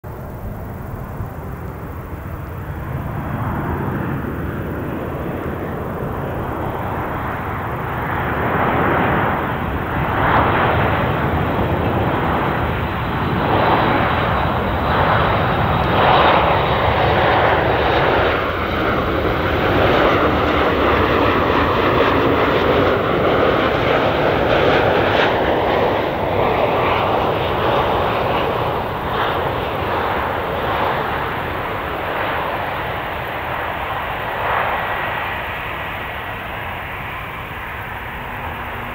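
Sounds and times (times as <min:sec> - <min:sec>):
jet engine rumble with whine: 0:00.0 - 0:38.9.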